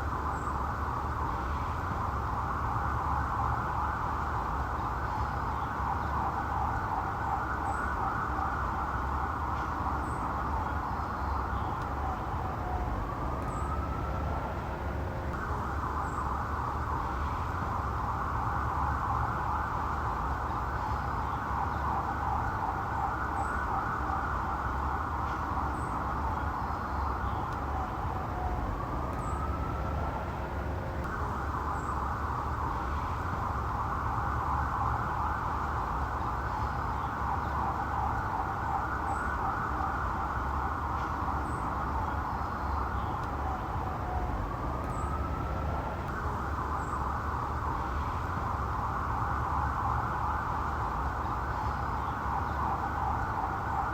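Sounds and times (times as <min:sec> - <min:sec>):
police siren warbling: 0:00.0 - 0:53.9.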